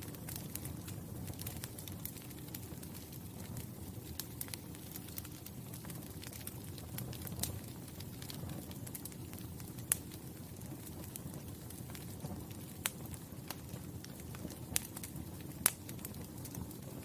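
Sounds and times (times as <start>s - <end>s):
fire crackles and pops: 0.0s - 17.0s
low rumble of fire: 0.0s - 17.0s.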